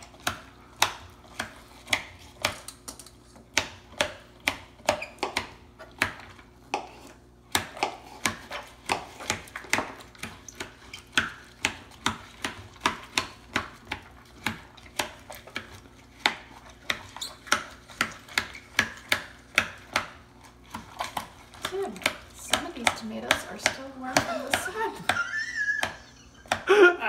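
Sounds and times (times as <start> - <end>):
knife chopping on plastic board: 0.0 - 26.7.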